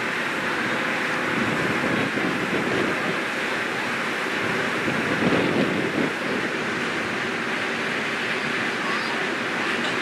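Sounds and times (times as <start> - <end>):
wind and water rushing: 0.0 - 10.0.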